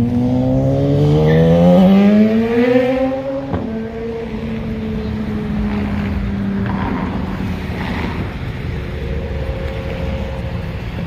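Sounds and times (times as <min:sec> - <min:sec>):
engine hum: 0:00.0 - 0:11.0
engine low rumble: 0:00.0 - 0:11.0.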